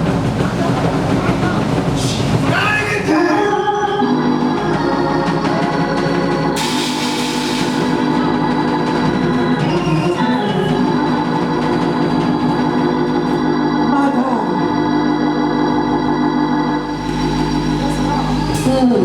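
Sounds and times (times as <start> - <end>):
organ playing sustained chords: 3.0 - 19.0.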